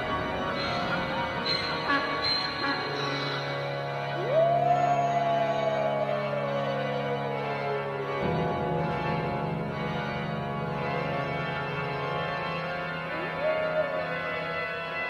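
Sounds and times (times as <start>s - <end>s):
organ chord drone: 0.0s - 15.0s.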